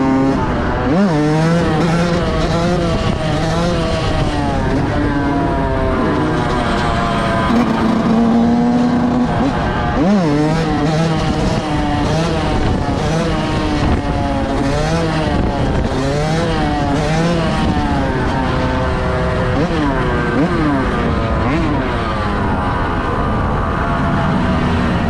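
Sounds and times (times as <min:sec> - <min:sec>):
vehicle engines revving: 0:00.0 - 0:25.0.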